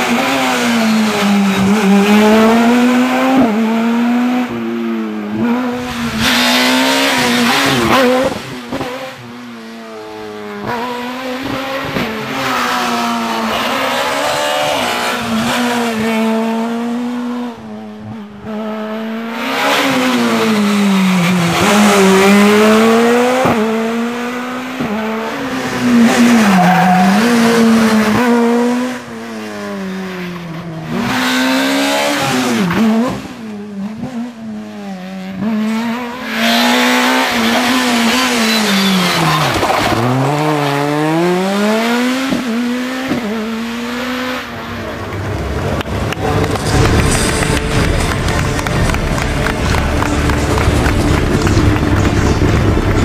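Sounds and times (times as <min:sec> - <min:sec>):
rally car engine at full throttle: 0:00.0 - 0:53.0.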